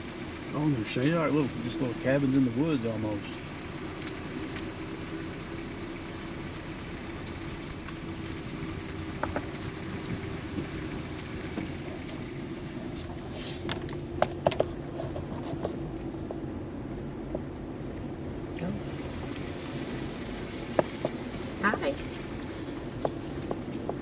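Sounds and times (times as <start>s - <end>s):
car engine hum: 0.0s - 24.0s
tyre rumble on road: 3.1s - 24.0s.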